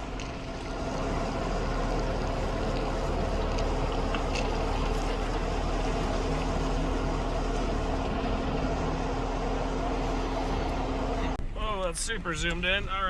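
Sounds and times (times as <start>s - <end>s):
engine drone: 0.0s - 13.0s
tyre and road noise: 0.0s - 13.0s.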